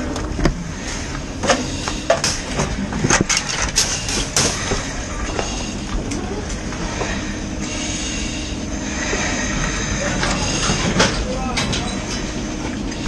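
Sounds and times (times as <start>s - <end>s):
steady rumbling: 0.0s - 13.0s.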